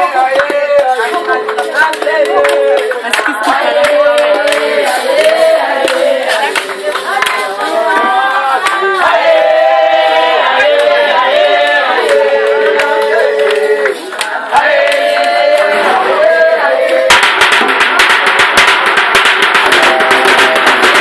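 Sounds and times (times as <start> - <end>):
skin drums beating: 0.0 - 13.9, 16.5 - 21.0
group of voices chanting: 0.0 - 17.4, 19.6 - 21.0.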